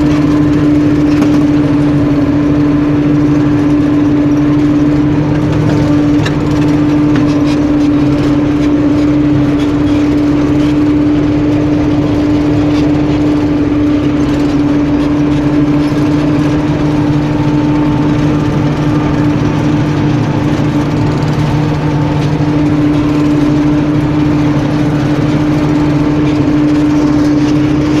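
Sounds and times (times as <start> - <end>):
harvest machinery engine droning: 0.0 - 28.0.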